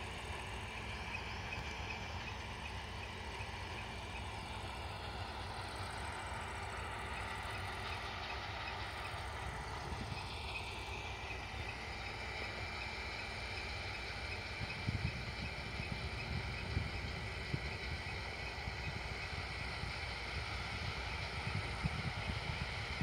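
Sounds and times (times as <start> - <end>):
distant combine harvester drone: 0.0 - 23.0.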